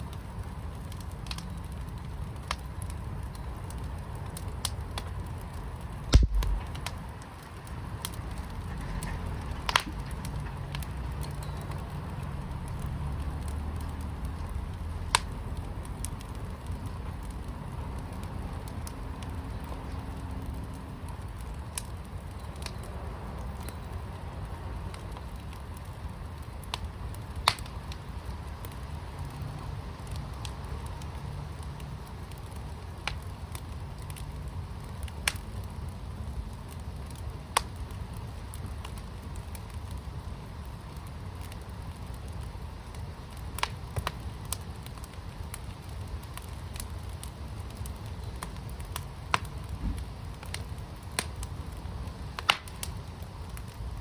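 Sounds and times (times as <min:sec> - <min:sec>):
fire burning low rumble: 0:00.0 - 0:54.0
fire popping and crackling: 0:00.0 - 0:54.0.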